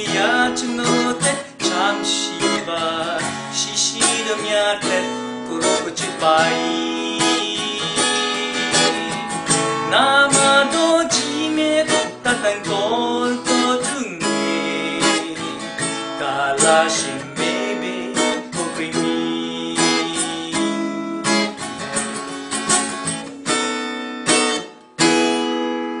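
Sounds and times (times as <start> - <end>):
man singing: 0.0 - 21.6
acoustic guitar strumming: 0.0 - 26.0.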